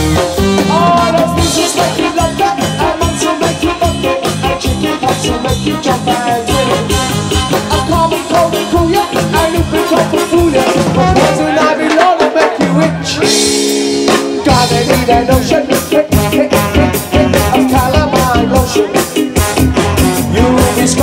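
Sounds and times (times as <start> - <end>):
saxophone line: 0.0 - 12.2, 12.8 - 21.0
ska band playing: 0.0 - 21.0.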